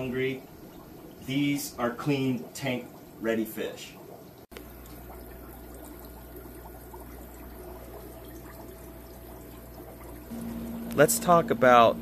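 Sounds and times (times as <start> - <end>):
low steady hum: 0.0 - 12.0
water trickling and bubbling: 0.0 - 12.0.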